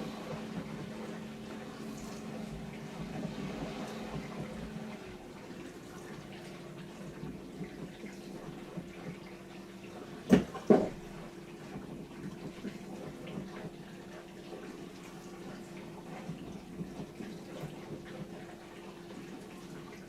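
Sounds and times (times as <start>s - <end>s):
dishwasher pump humming: 0.0s - 20.0s
water spraying and sloshing: 0.0s - 20.0s.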